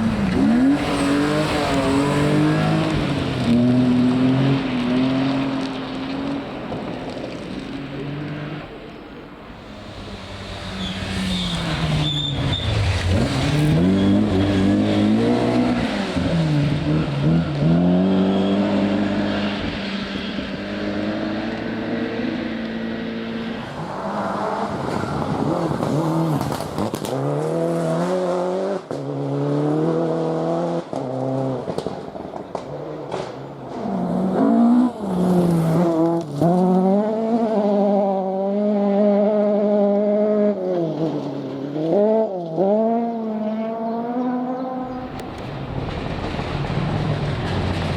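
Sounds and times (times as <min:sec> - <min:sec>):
rally car engine revving: 0:00.0 - 0:08.9, 0:09.6 - 0:47.9.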